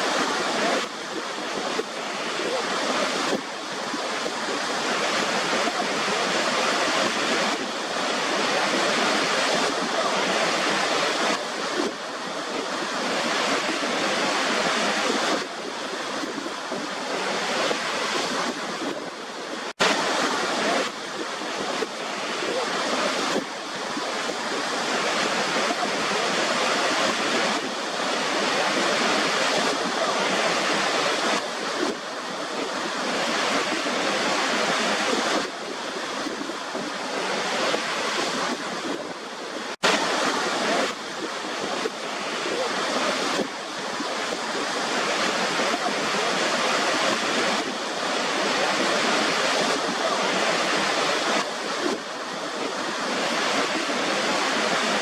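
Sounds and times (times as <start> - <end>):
waterfall rushing and pouring: 0.0 - 55.0.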